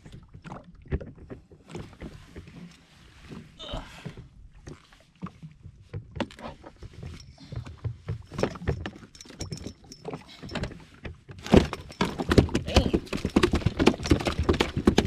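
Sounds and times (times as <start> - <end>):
landing net and fish handled: 0.0 - 15.0.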